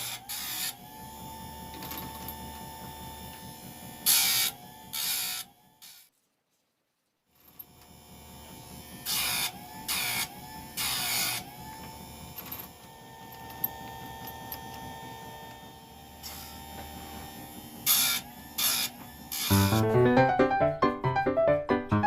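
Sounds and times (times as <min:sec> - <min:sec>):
small electric motor running: 0:00.0 - 0:06.1, 0:07.3 - 0:19.9.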